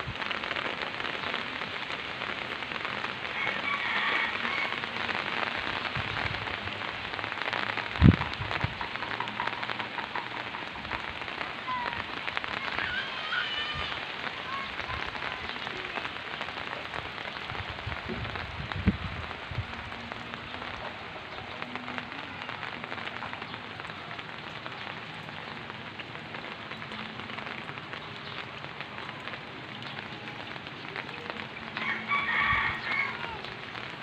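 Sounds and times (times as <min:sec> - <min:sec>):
heavy rain on plants: 0:00.0 - 0:34.0.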